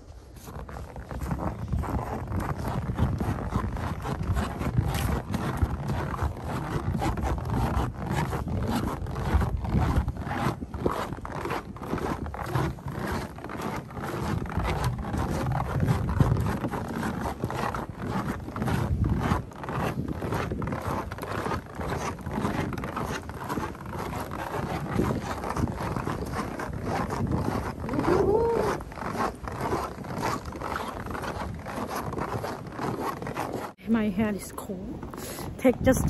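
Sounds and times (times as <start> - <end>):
footsteps crunching in snow: 0.0 - 34.4.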